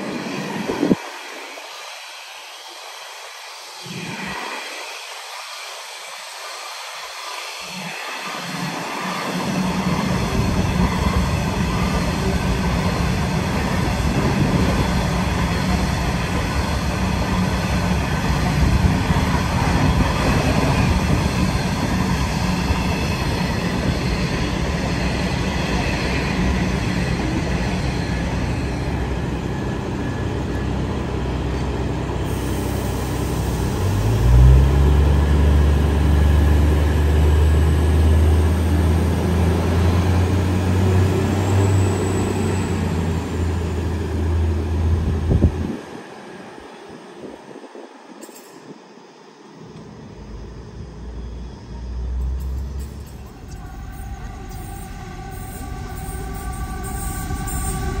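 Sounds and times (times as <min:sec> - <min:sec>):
diesel railcar engine drone: 0:00.0 - 0:58.0.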